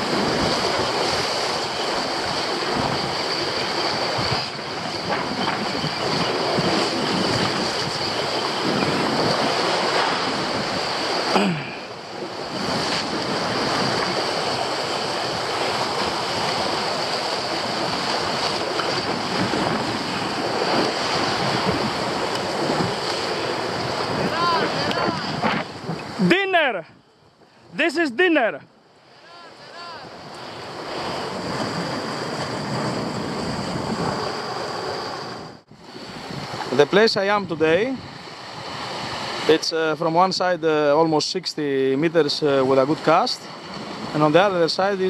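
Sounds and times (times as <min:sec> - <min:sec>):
sea surf breaking over rocks: 0:00.0 - 0:26.8, 0:27.6 - 0:45.0
wind buffeting microphone: 0:00.0 - 0:27.8, 0:29.9 - 0:41.0, 0:41.7 - 0:45.0.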